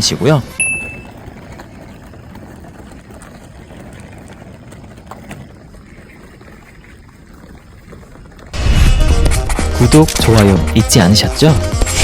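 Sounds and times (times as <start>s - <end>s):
suitcase wheels rolling: 0.0s - 12.0s.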